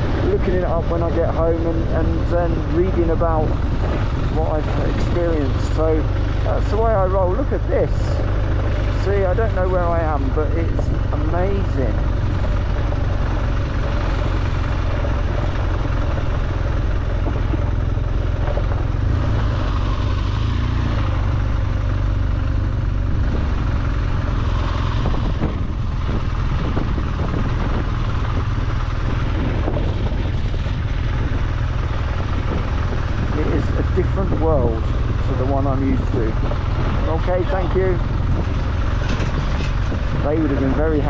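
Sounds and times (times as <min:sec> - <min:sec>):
motorcycle engine running: 0:00.0 - 0:41.0
wind and road noise: 0:00.0 - 0:41.0.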